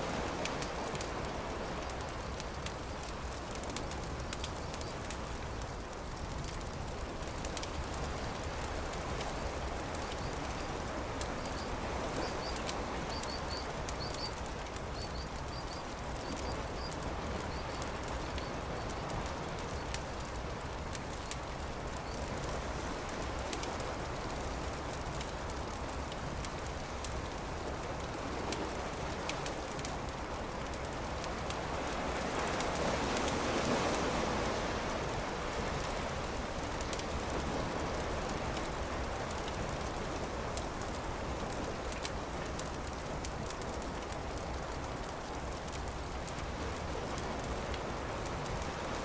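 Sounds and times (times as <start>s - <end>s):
campfire crackling and popping: 0.1s - 49.0s.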